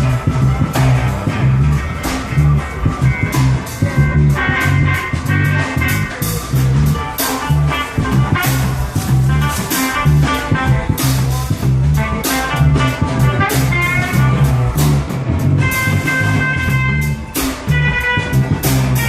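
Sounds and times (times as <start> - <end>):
bass guitar: 0.0 - 19.0
drum kit: 0.0 - 19.0
electric guitar: 0.0 - 19.0.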